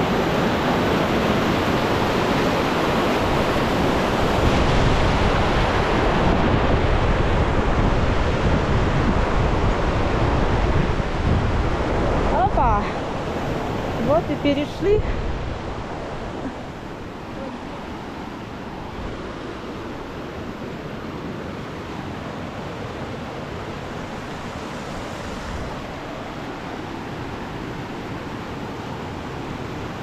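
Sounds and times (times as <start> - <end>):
river rushing over rocks: 0.0 - 30.0.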